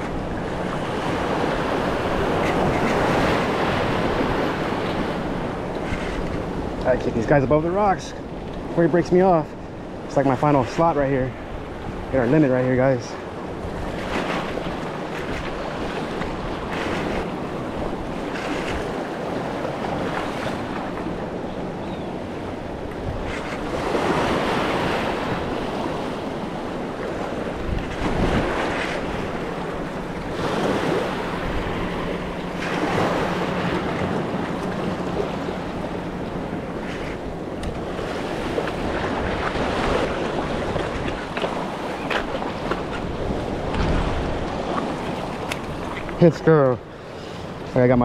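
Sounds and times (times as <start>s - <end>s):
surf washing over rocks: 0.0s - 48.0s
wind buffeting microphone: 0.0s - 48.0s.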